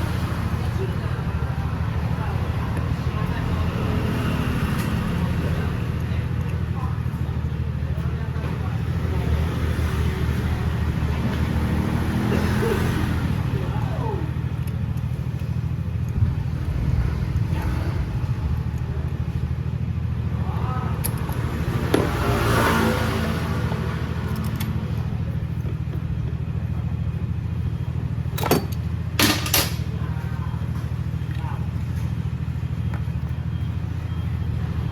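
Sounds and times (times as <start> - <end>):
scooter engine idling: 0.0 - 34.9.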